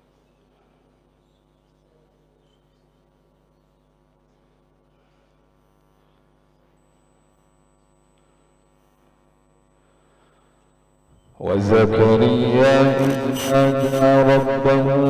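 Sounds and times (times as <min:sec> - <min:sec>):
faint electrical mains hum: 0:00.0 - 0:15.0.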